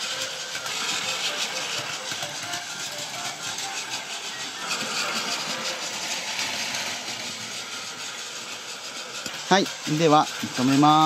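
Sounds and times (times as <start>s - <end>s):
plastic wheels rattling on track: 0.0s - 11.0s
toy train motor whirring: 0.0s - 11.0s.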